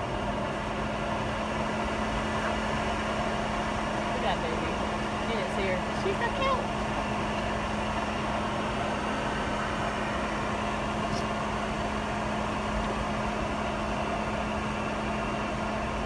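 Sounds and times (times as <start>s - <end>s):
airliner cabin engine hum: 0.0s - 16.0s
cabin air system: 0.0s - 16.0s.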